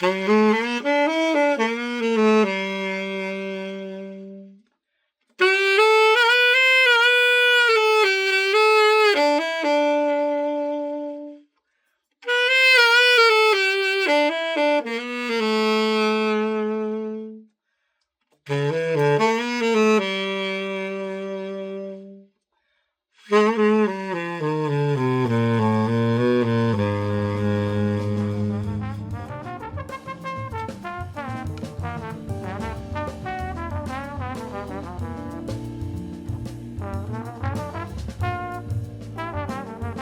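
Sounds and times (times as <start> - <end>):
tenor saxophone melody: 0.0 - 4.7, 5.4 - 11.5, 12.2 - 17.5, 18.4 - 22.3, 23.2 - 40.0.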